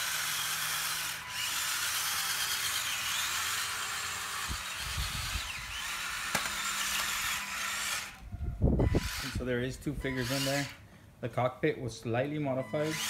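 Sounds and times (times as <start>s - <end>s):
electric motor and gears whining: 0.0s - 10.8s, 12.5s - 13.0s.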